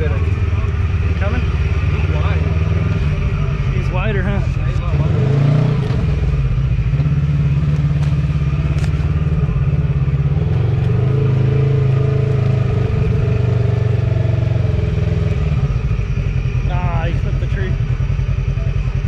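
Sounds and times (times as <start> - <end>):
turbocharged engine driving: 0.0 - 19.0.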